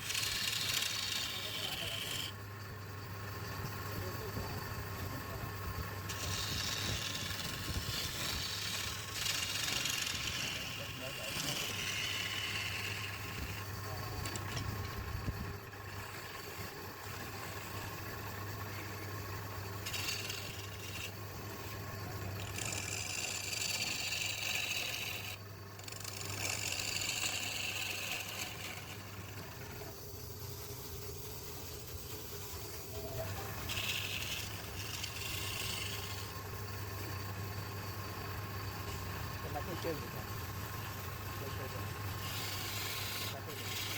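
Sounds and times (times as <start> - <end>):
lathe motor hum: 0.0 - 43.9
tool cutting spinning wood: 0.0 - 43.9.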